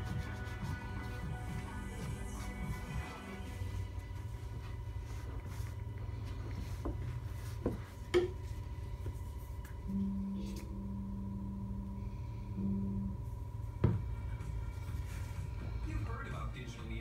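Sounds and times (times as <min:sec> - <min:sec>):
steady low hum: 0:00.0 - 0:17.0
steady low tone: 0:00.0 - 0:17.0.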